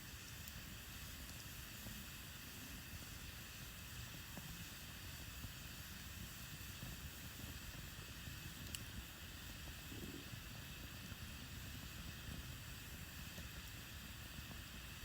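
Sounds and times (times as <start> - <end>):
campfire hissing: 0.0 - 15.0
fire crackles: 0.0 - 15.0.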